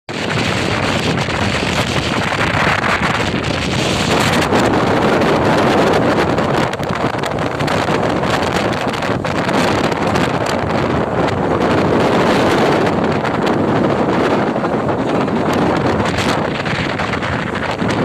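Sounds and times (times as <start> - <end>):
heavy surf rushing: 0.1 - 18.0
strong wind buffeting microphone: 0.1 - 18.0.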